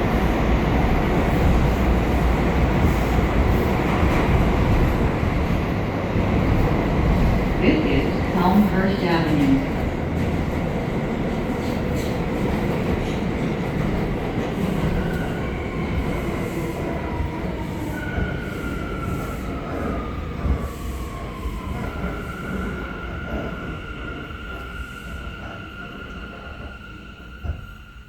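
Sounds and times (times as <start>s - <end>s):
subway car rumbling on rails: 0.0s - 28.0s.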